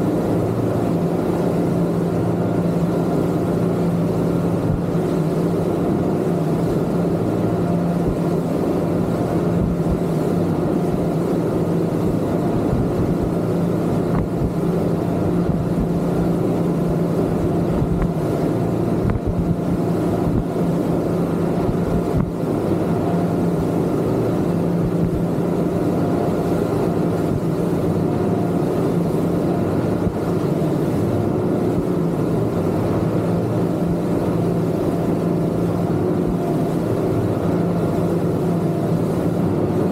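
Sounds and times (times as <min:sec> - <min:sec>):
outboard motors droning: 0:00.0 - 0:39.9.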